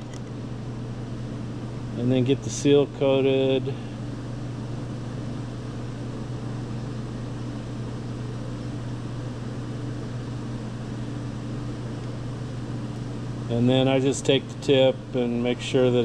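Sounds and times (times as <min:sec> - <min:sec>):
machinery hum with hiss: 0:00.0 - 0:16.0.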